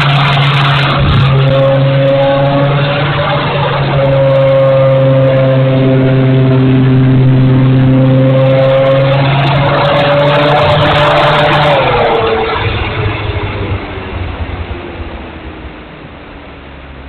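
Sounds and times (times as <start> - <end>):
electric motor and propeller whine: 0.0 - 16.2
wind noise: 0.0 - 17.0.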